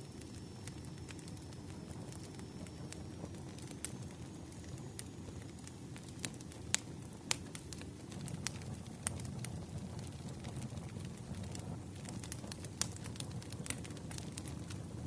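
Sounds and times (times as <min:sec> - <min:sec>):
campfire flames rumbling: 0:00.0 - 0:15.0
fire crackles and pops: 0:00.0 - 0:15.0.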